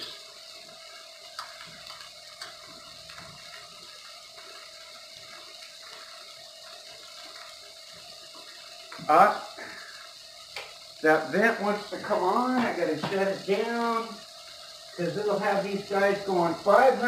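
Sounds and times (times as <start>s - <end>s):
hamburgers sizzling in a skillet: 0.0s - 17.0s.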